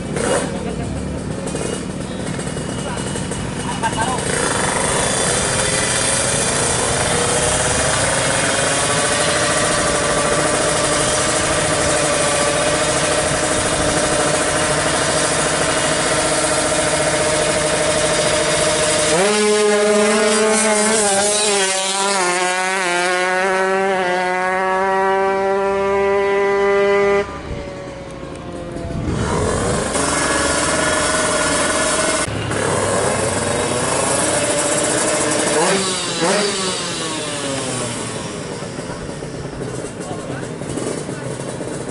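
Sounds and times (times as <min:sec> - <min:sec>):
two-stroke engine high revs: 0:00.0 - 0:41.9.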